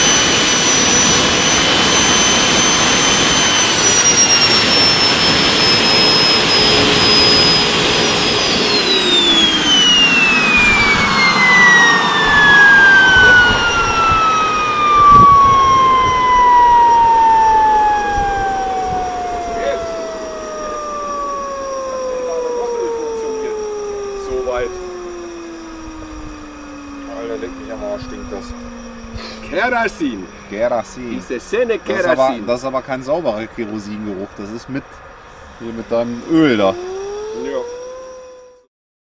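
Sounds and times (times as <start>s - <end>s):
turbojet engine whine: 0.0s - 38.7s.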